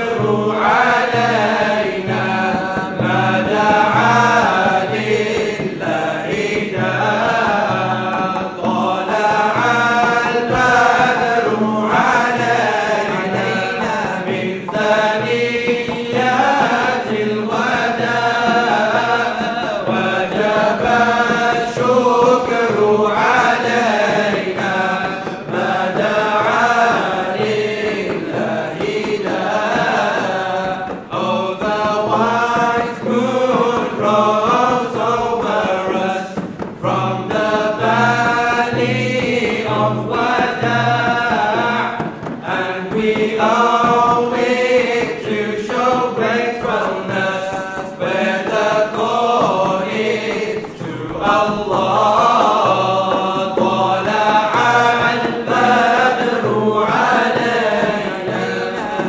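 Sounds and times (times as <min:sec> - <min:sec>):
frame drums slow beat: 0:00.0 - 0:59.0
men chanting together: 0:00.0 - 0:59.0.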